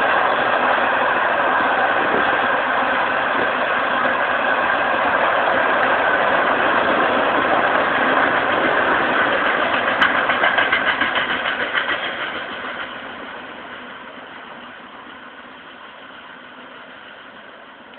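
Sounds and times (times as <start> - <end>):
train wheels on rails: 0.0 - 17.9.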